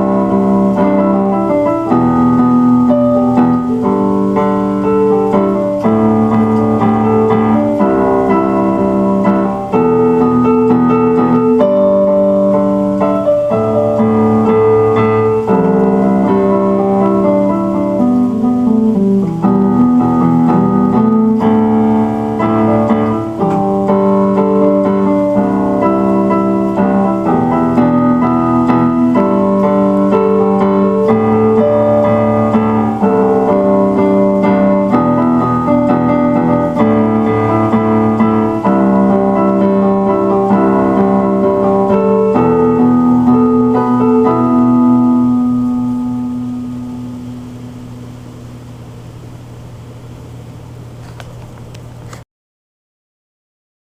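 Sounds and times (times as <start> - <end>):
keyboard music with held chords: 0.0 - 50.0.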